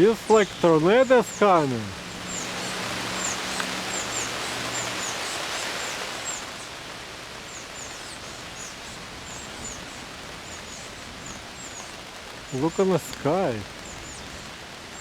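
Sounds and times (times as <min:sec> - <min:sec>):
small birds chirping: 0:00.0 - 0:15.0
wind rustling through trees: 0:00.0 - 0:15.0.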